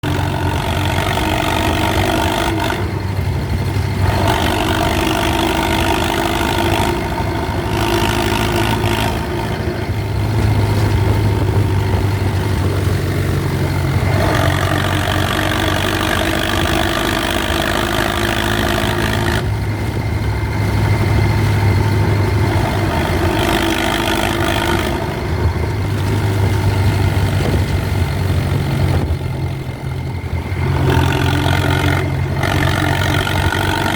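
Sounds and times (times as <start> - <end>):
tractor engine drone under load: 0.0 - 33.9.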